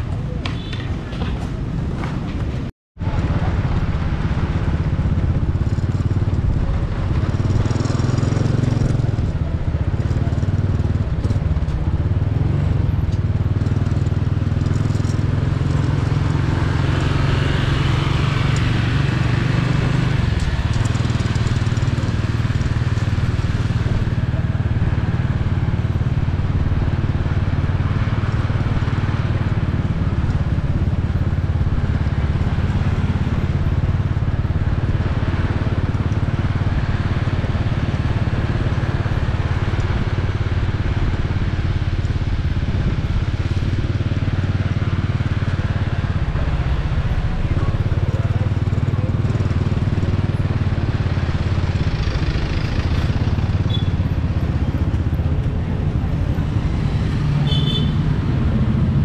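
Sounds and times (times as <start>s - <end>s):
motorcycle engine rumble: 0.0s - 59.0s
road noise: 0.0s - 59.0s.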